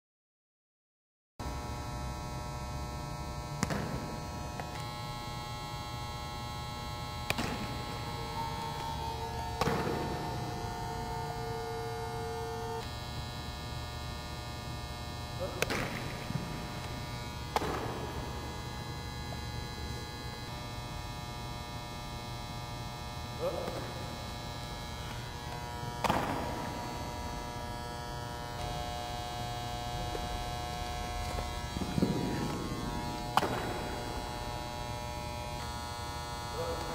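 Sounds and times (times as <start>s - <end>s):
electrical hum: 1.4s - 36.9s.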